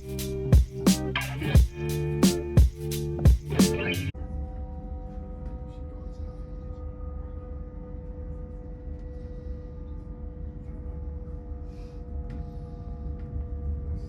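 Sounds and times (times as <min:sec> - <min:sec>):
hum of held tones: 0:01.1 - 0:14.0.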